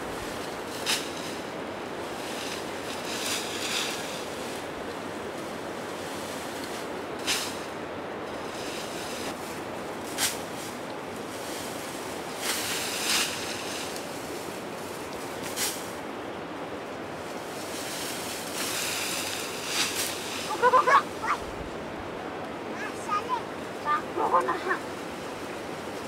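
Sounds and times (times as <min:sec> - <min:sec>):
dry grass and leaves rustling: 0:00.0 - 0:26.0
steady rushing wind noise: 0:00.0 - 0:26.0.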